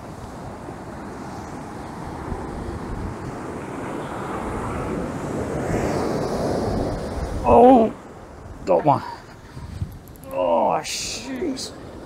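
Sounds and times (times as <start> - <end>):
surf washing up the beach: 0.0 - 12.0
wind rumbling on microphone: 0.0 - 12.0.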